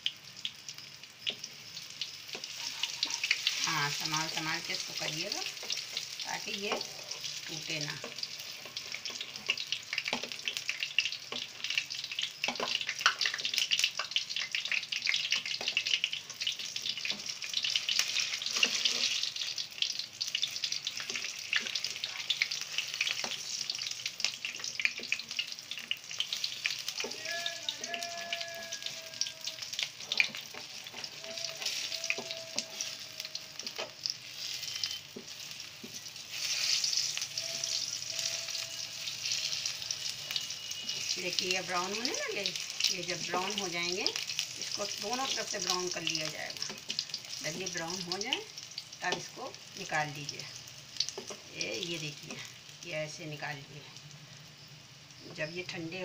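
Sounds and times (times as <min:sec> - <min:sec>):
oil sizzling and crackling: 0:00.0 - 0:56.0.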